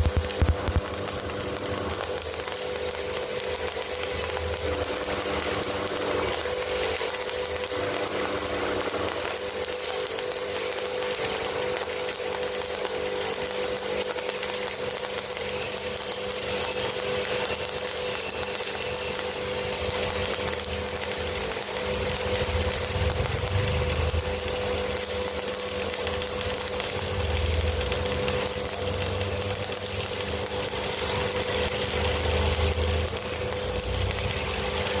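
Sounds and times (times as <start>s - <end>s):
steady hum: 0.0s - 13.9s, 14.7s - 35.0s
welding arc crackling hiss: 0.0s - 35.0s.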